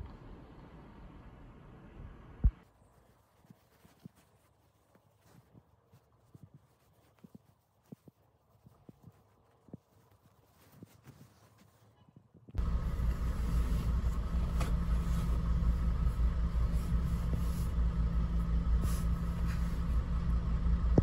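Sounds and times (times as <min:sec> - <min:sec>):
car engine and road noise: 0:00.0 - 0:21.0
faint steady hum: 0:00.0 - 0:21.0.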